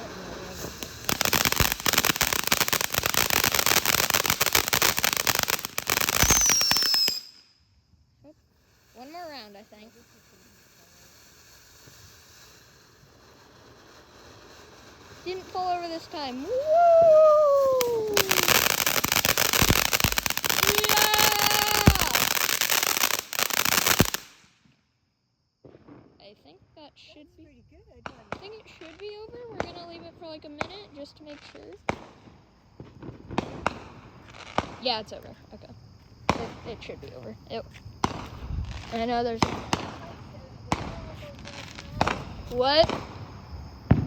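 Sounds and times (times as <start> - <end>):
firework bangs: 0.0 - 7.4, 8.8 - 24.7, 28.0 - 44.0
firework crackling: 0.0 - 7.6, 8.3 - 24.6, 25.7 - 44.0.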